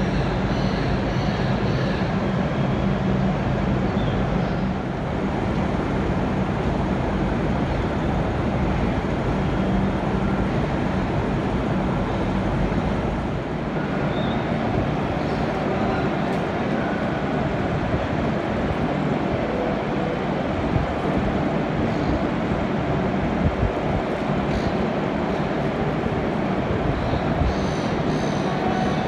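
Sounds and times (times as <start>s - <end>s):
diesel railcar engine droning: 0.0s - 29.0s.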